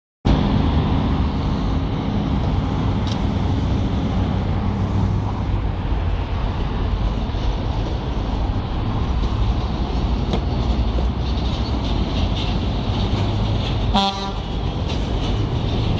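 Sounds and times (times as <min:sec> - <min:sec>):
excavator diesel engine running: 0:00.3 - 0:15.9.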